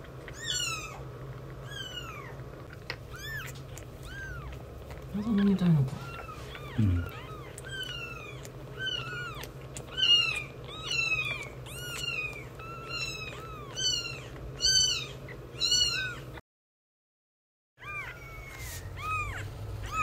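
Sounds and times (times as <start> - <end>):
kitten mewing: 1.6 - 16.4, 17.8 - 20.0.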